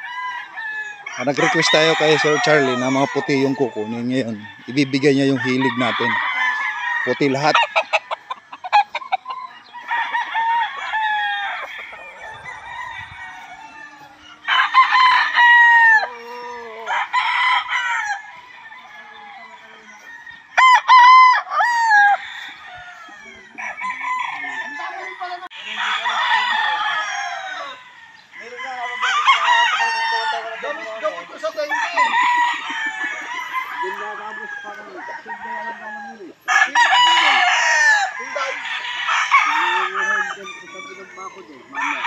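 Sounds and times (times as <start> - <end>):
roosters crowing: 0.0 - 42.0.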